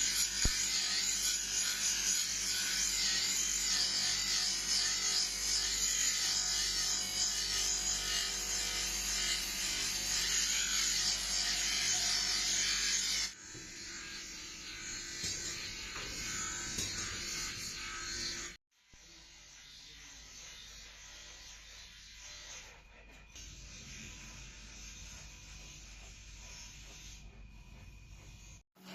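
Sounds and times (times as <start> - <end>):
power tool grinding blade: 0.0 - 28.9.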